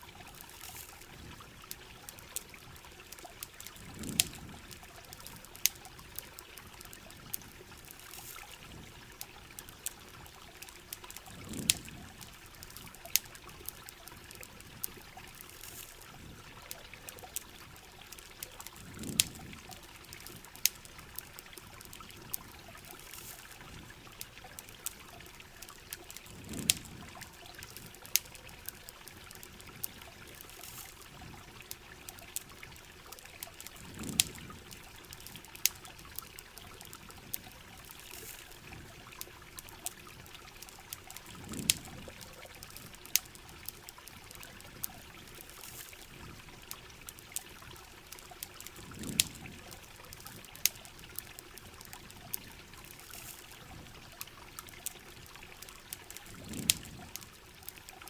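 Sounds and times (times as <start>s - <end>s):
campfire crackling and popping: 0.0s - 58.0s
rain hiss: 0.0s - 58.0s.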